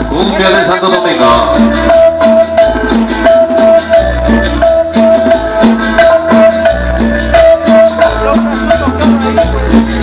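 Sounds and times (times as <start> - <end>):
cumbia music over sound system: 0.0 - 10.0.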